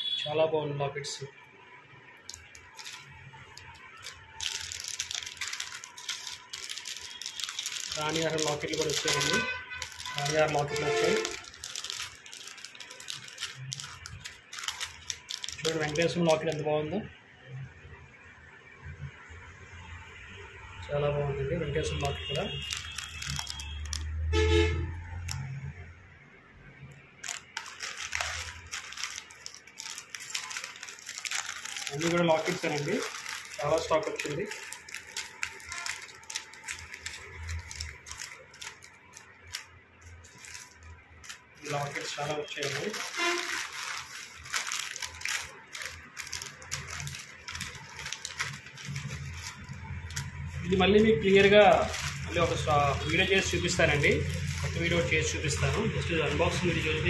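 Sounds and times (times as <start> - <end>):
plastic pouches clicking and rustling: 2.1 - 16.6, 21.8 - 24.4, 25.0 - 25.6, 26.9 - 57.0
plastic packets crinkling: 2.1 - 16.7, 21.6 - 25.8, 26.8 - 57.0.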